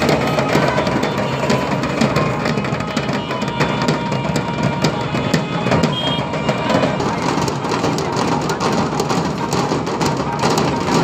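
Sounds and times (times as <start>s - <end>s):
drums beaten loudly: 0.0s - 11.0s.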